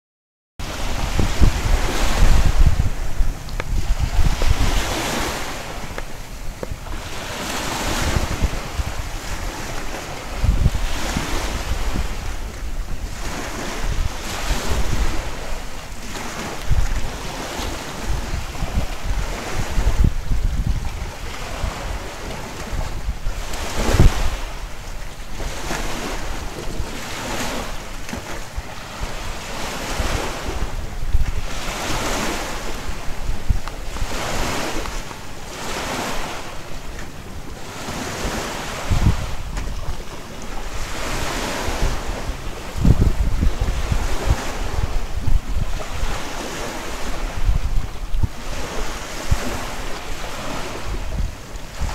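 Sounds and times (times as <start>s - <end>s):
sea waves washing on shore: 0.6s - 51.9s
wind buffeting microphone: 0.6s - 51.9s.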